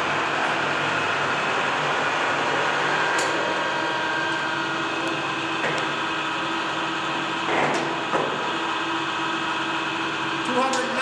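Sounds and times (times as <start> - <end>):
lathe running with steady hum: 0.0 - 11.0.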